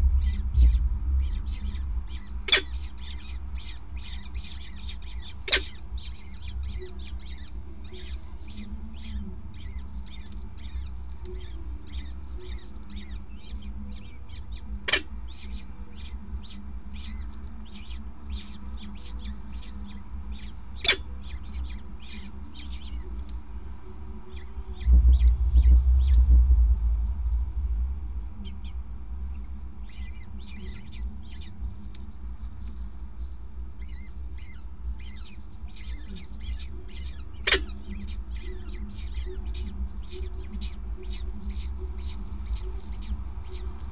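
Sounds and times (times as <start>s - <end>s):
falcon chicks begging calls: 0.0s - 23.4s, 28.4s - 31.9s, 32.6s - 43.9s
low rumble: 0.0s - 43.9s
steady low hum: 0.0s - 43.9s.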